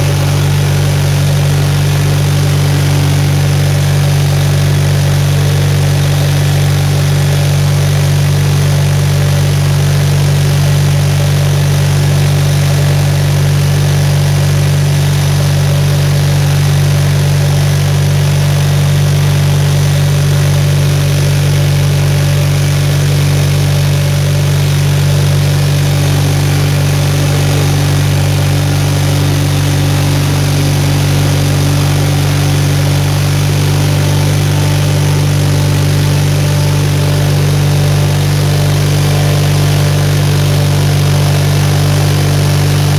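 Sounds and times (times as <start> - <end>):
snow machine engine running: 0.0 - 42.9.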